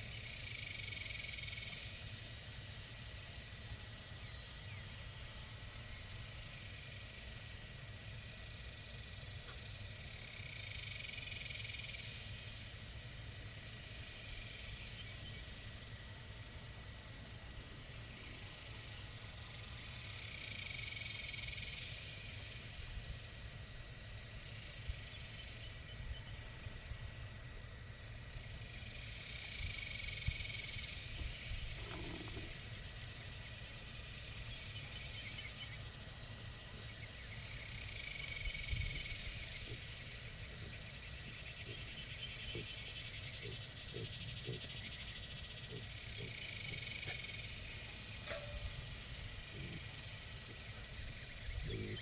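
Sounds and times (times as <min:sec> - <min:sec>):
insects buzzing: 0:00.0 - 0:52.0.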